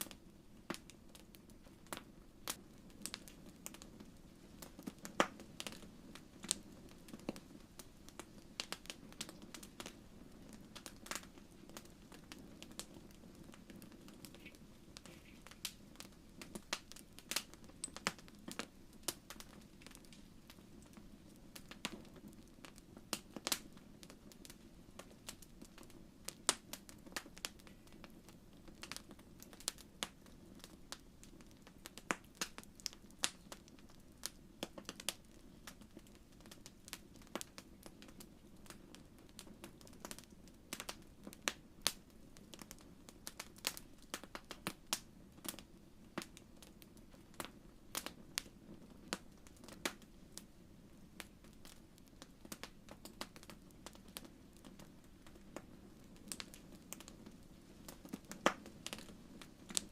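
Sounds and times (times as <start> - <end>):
low background noise: 0.0 - 59.9
wood fire crackling: 0.0 - 59.9.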